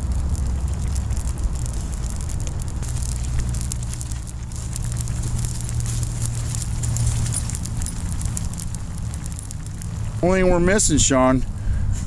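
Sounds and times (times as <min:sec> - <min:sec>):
campfire crackling and popping: 0:00.0 - 0:11.9
broth boiling in a pot: 0:00.0 - 0:12.0
low rumble: 0:00.0 - 0:12.0.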